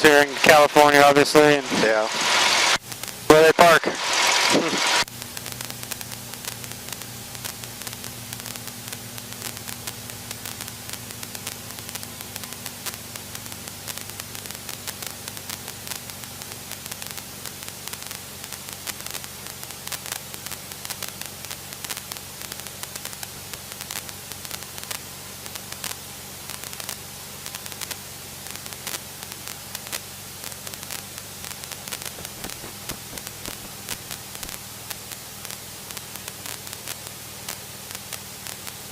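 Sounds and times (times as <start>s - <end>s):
headset intercom hiss: 0.0s - 20.5s, 27.7s - 38.9s
small crackling clicks: 2.8s - 3.3s, 5.0s - 38.9s.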